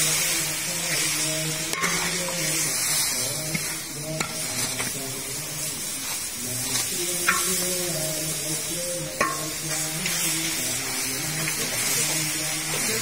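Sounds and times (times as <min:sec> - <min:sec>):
frying hiss: 0:00.0 - 0:13.0
spatula scraping meat in wok: 0:00.0 - 0:13.0.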